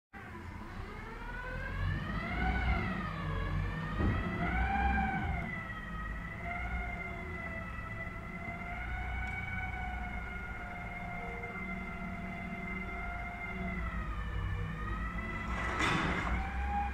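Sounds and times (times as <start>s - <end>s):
diesel engine rumble: 0.2s - 16.9s.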